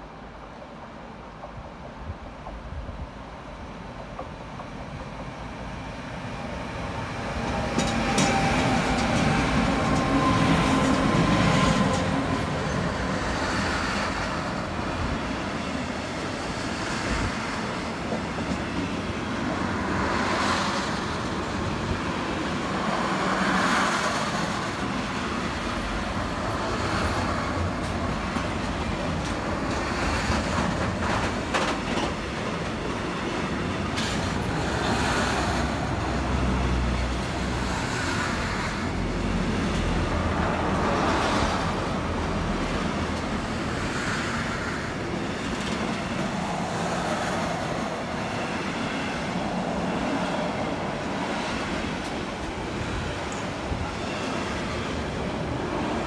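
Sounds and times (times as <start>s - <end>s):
train passing on rails: 0.0s - 56.0s.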